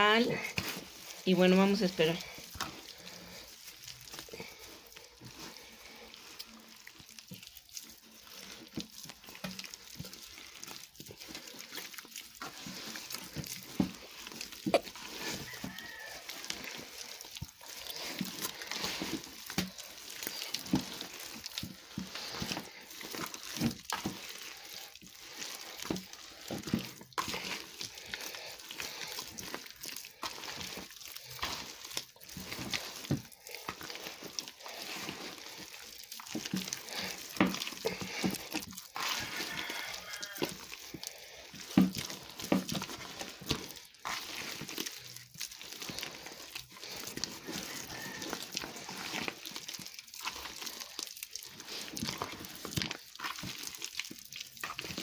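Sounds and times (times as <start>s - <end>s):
hands squishing wet mixture: 0.0s - 55.0s.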